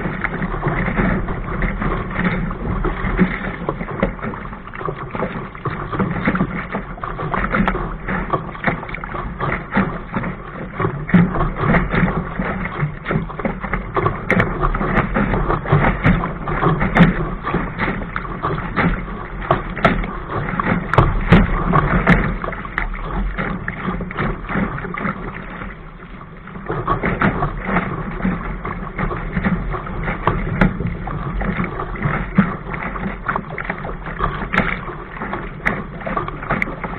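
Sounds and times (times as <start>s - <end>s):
water rushing against boat hull: 0.0s - 36.9s.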